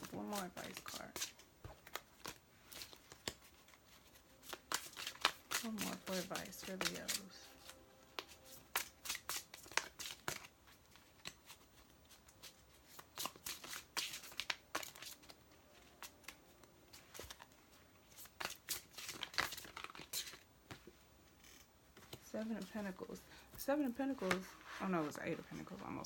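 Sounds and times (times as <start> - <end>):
cards being shuffled: 0.0 - 23.0.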